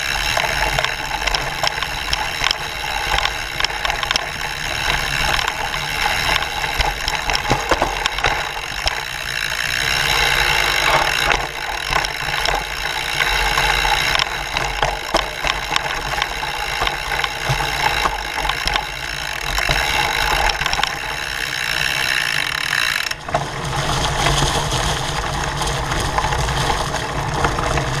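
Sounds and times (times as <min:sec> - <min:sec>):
bike rattling and clicking: 0:00.0 - 0:28.0.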